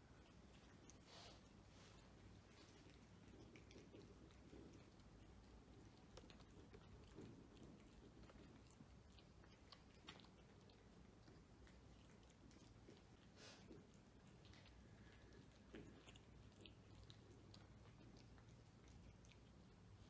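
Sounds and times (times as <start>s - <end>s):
cat chewing and crunching food: 0.0s - 20.0s
low steady hum: 0.0s - 20.0s.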